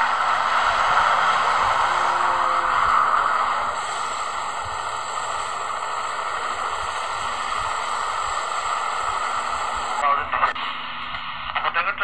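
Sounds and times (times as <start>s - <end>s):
aircraft rushing noise: 0.0s - 10.9s.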